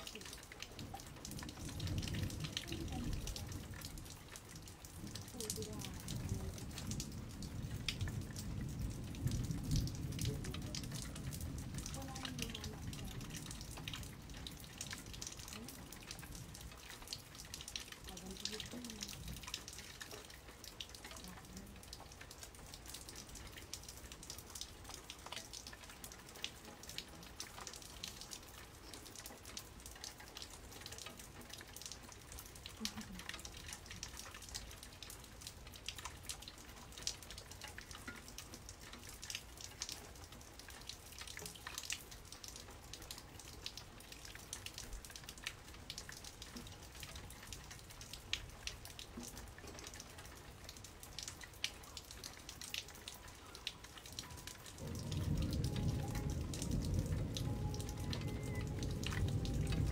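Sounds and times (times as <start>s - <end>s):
rain pattering and dripping: 0.0s - 59.9s.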